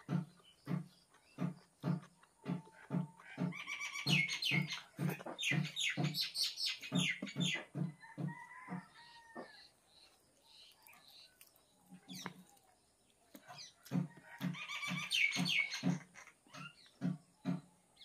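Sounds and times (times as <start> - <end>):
close chewing of food: 0.0 - 16.1
birds chirping: 0.0 - 18.0.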